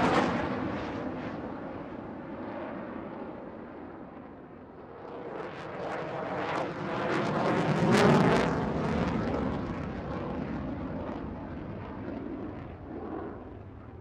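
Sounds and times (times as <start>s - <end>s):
airplane flying past: 0.0s - 14.0s.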